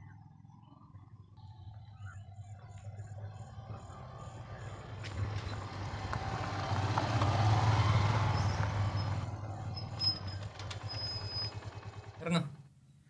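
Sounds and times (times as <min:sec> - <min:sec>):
motorcycle passing by: 0:00.0 - 0:12.5.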